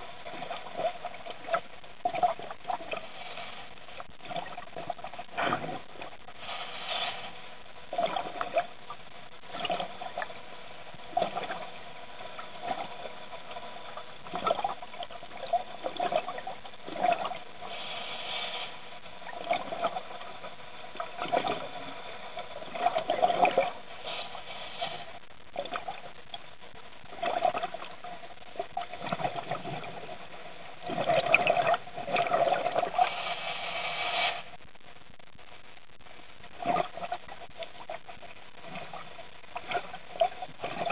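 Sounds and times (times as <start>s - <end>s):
water sloshing and bubbling: 0.0s - 40.9s.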